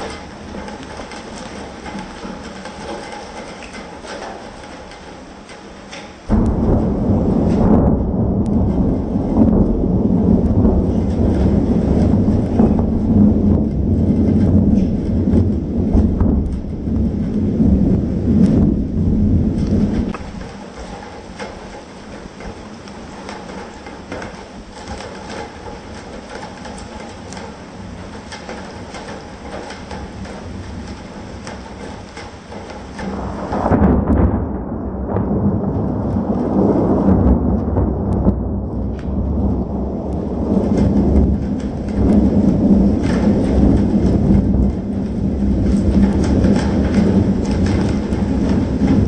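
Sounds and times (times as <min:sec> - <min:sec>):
raindrop ticks: 0:00.0 - 0:34.3, 0:35.1 - 0:49.0
steady rain: 0:00.0 - 0:49.0
thunder rumbling: 0:00.0 - 0:49.0.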